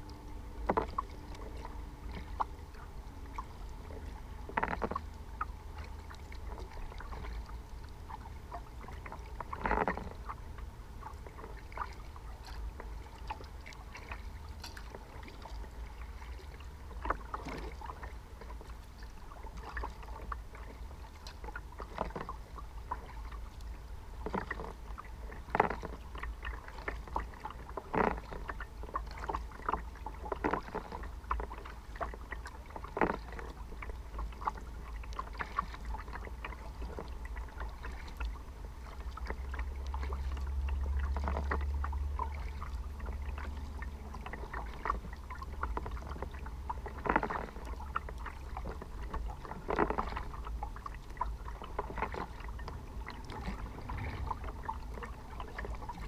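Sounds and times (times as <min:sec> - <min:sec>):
steady low rumble: 0:00.0 - 0:27.8, 0:28.4 - 0:56.0
paddle splashing in water: 0:00.0 - 0:56.0.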